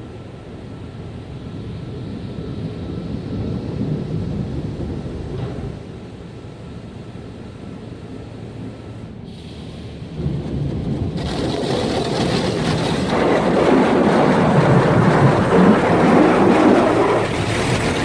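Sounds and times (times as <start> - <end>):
car wash machinery rumble: 0.0 - 18.0.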